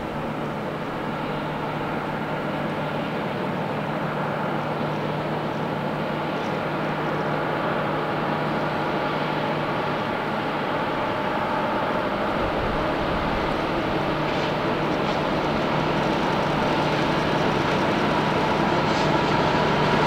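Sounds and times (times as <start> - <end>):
diesel train engine humming: 0.0 - 20.0.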